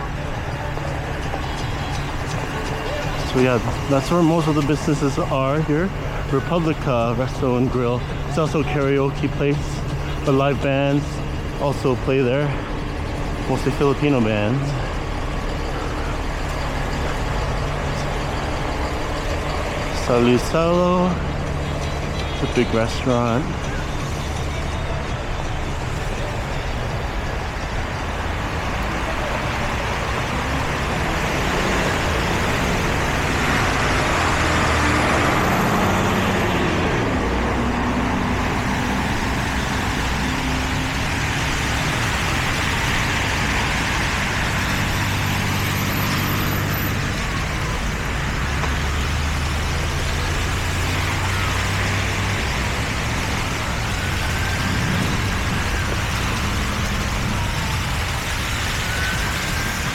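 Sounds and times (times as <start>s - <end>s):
steady traffic hum: 0.0s - 59.9s
vehicle engines running: 0.0s - 59.9s.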